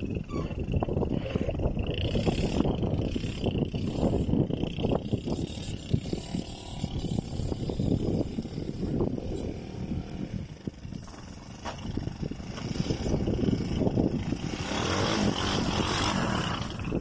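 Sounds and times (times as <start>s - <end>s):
quad bike engine rumbling: 0.0s - 17.0s.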